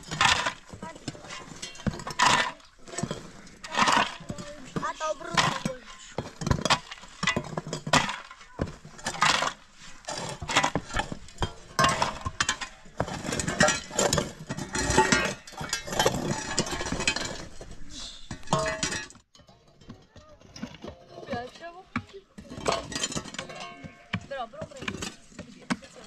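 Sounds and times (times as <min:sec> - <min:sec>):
hard objects clinking and knocking: 0:00.0 - 0:26.0.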